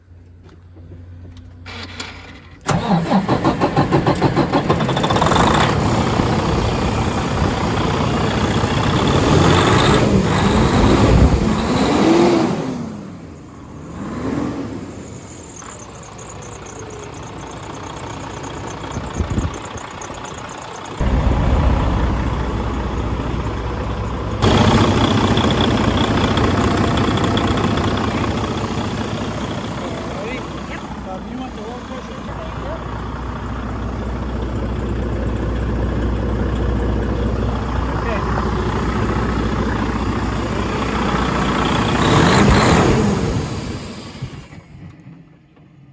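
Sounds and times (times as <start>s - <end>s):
diesel engine revving and idling: 0.7s - 45.8s.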